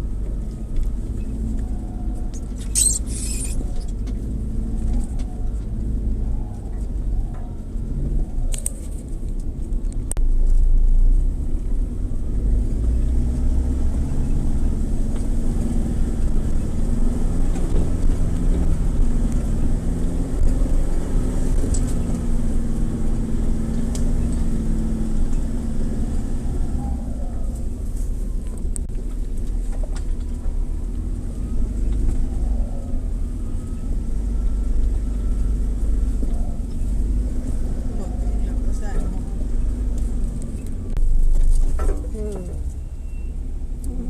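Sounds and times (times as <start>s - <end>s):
off-road vehicle engine droning: 0.0s - 44.0s.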